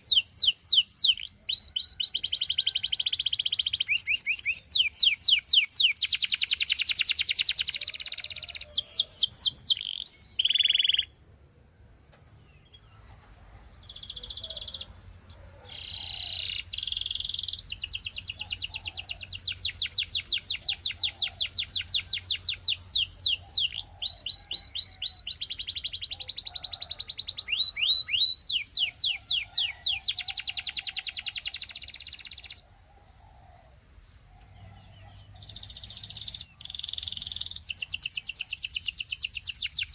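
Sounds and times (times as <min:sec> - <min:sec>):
canary singing trills: 0:00.0 - 0:11.2, 0:12.2 - 0:32.8, 0:34.2 - 0:39.9.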